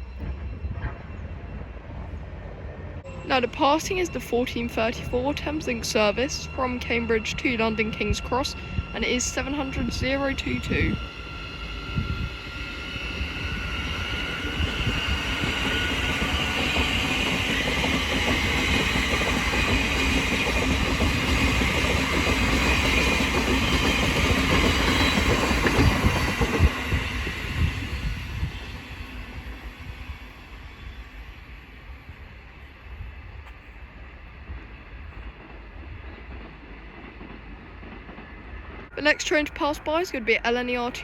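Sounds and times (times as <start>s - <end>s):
electric train running past: 0.0s - 41.0s.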